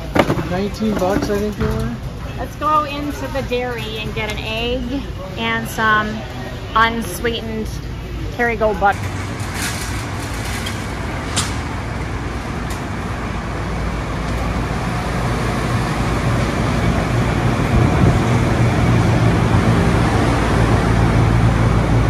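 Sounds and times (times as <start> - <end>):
refrigeration hum and fan: 0.0 - 22.0.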